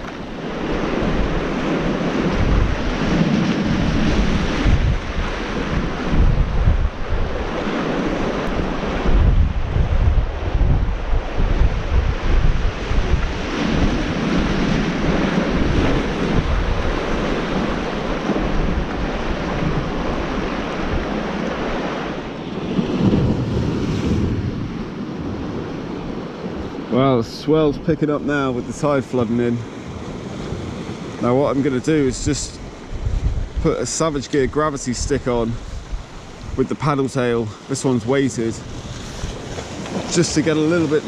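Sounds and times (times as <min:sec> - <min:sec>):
waves breaking on rocks: 0:00.0 - 0:09.3, 0:10.2 - 0:41.0
wind buffeting microphone: 0:00.0 - 0:41.0.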